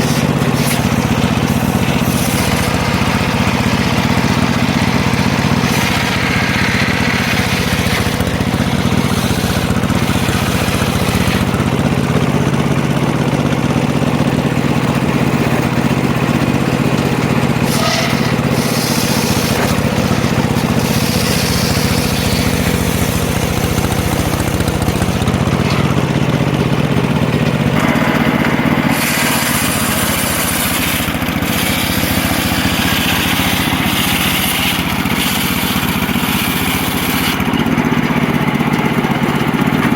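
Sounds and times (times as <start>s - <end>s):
circular saw humming: 0.0s - 12.0s, 14.5s - 37.7s
saw cutting wood: 0.0s - 39.9s.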